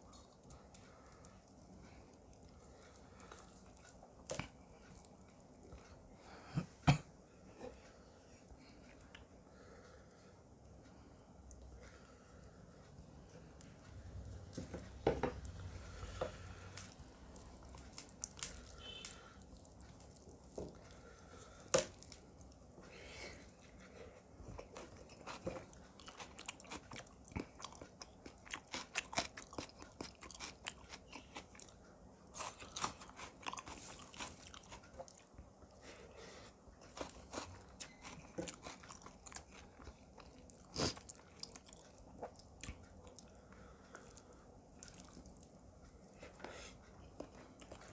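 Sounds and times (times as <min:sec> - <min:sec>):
chewing with crunchy bites: 0:00.0 - 0:06.2, 0:11.4 - 0:47.9.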